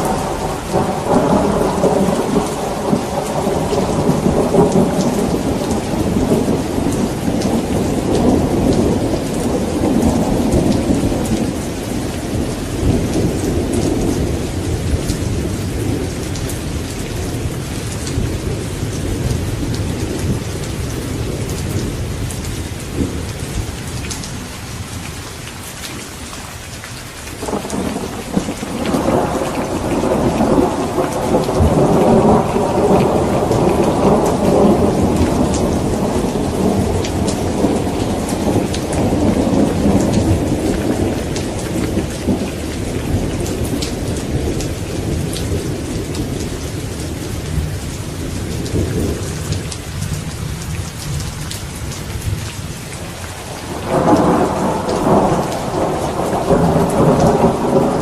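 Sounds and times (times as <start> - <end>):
rolling thunder: 0.0 - 24.1, 27.4 - 58.0
heavy rain hissing: 0.0 - 58.0.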